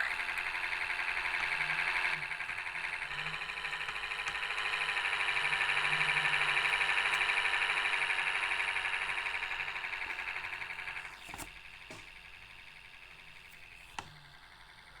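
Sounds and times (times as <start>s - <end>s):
bus warning buzzer pulsing: 0.0s - 15.0s.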